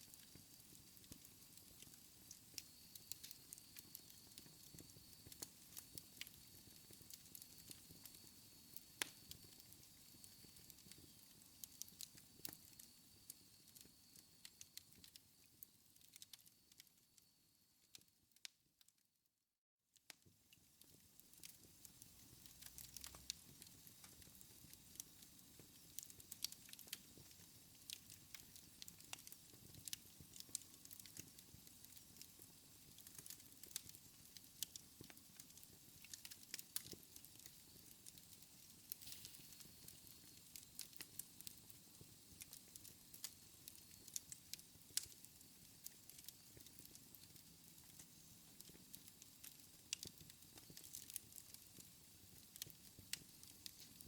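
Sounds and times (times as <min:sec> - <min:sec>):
wood fire crackling: 0:00.0 - 0:17.3, 0:20.0 - 0:54.0
faint steady hiss: 0:00.0 - 0:18.6, 0:20.0 - 0:54.0.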